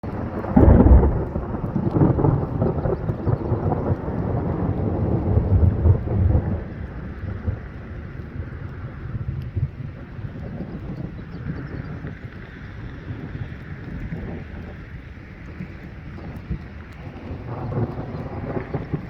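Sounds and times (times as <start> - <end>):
thunder clap rumbling: 0.0 - 19.0.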